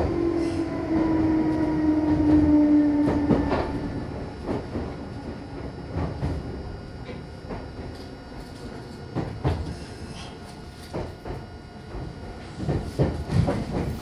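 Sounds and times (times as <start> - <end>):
train motor whine: 0.0 - 14.0.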